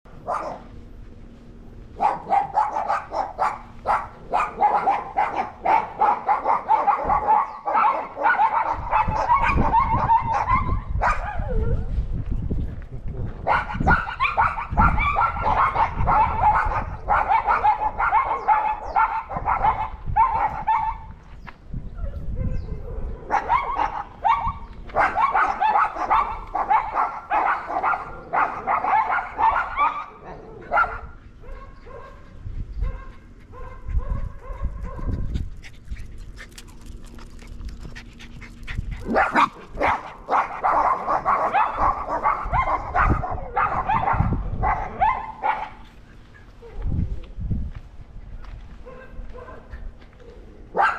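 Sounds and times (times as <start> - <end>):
dogs barking rapidly: 0.2 - 0.8, 2.0 - 11.6, 13.3 - 21.2, 22.4 - 36.6, 37.9 - 46.0, 48.8 - 49.9, 50.7 - 50.9.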